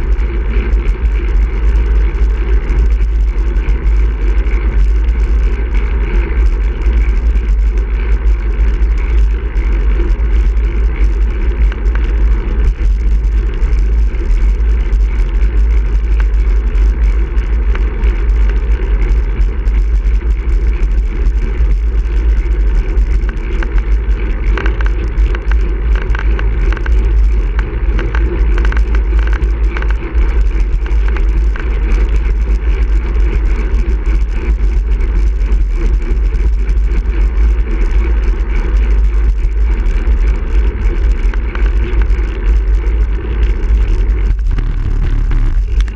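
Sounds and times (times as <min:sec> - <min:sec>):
bike tyre road noise: 0:00.0 - 0:45.9
wind rumbling on microphone: 0:00.0 - 0:45.9.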